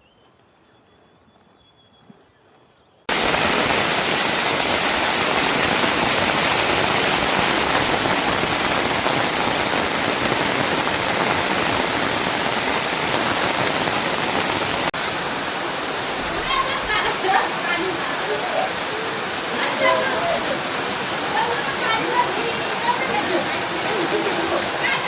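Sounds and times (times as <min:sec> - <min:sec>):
heavy rain pouring: 0:03.1 - 0:25.0.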